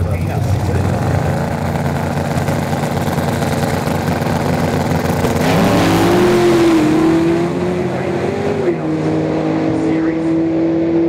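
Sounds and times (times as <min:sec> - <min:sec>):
racing car engines revving: 0:00.0 - 0:11.0.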